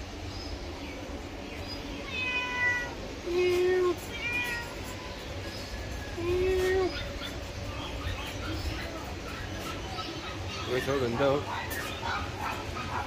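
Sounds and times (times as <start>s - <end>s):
cats meowing: 1.8s - 12.8s.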